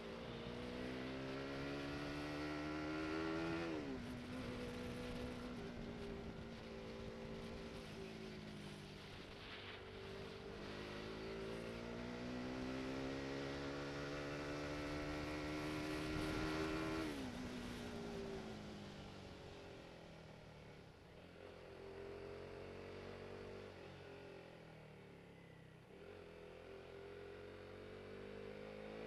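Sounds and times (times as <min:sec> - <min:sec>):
motorcycle engine accelerating: 0:00.0 - 0:19.9, 0:21.2 - 0:29.0
wind and road rush: 0:00.0 - 0:29.0.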